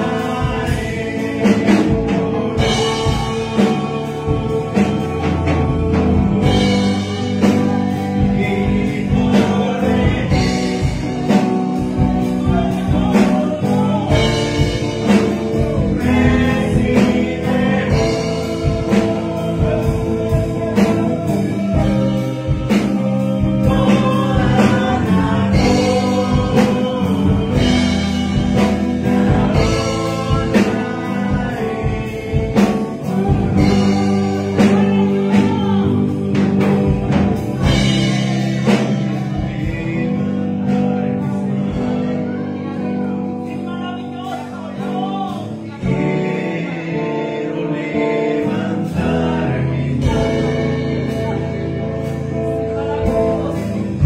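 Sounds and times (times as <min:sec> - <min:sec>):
instrumental accompaniment with steady beat: 0:00.0 - 0:54.0
man singing into a microphone: 0:00.0 - 0:54.0.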